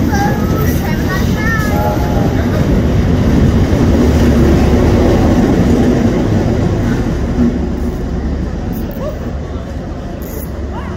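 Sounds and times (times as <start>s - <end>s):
diesel locomotive engine drone: 0.0s - 10.9s
train carriages rumbling past: 0.0s - 10.9s.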